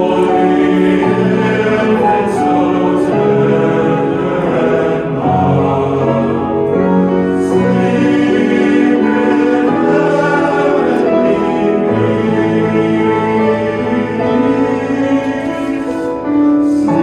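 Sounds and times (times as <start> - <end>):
choir singing in harmony: 0.0 - 17.0
piano accompaniment: 0.0 - 17.0.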